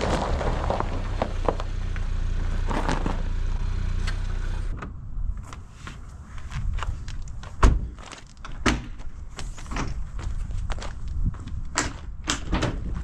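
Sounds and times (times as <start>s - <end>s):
tyres crunching over gravel: 0.0s - 4.7s, 5.4s - 13.0s.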